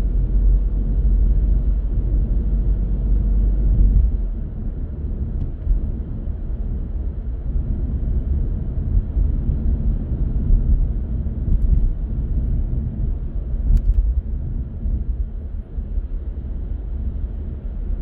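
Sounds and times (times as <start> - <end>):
car driving on road: 0.0 - 18.0.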